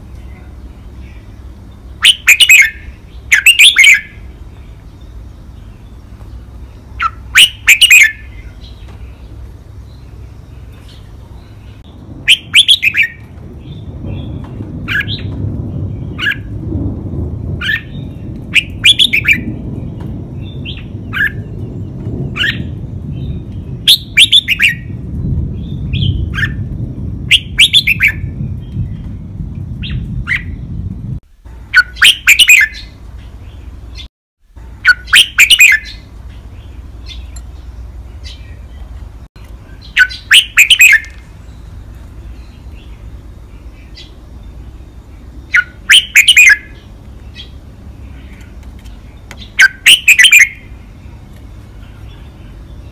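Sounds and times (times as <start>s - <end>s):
bulbul singing: 0.0s - 34.1s, 34.7s - 52.9s.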